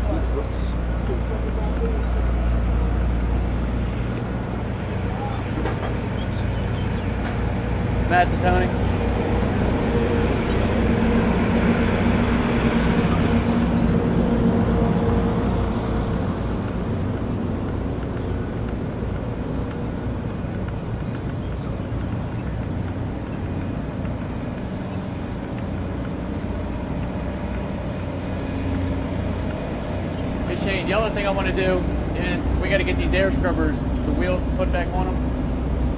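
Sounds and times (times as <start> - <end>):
machinery drone: 0.0 - 35.9.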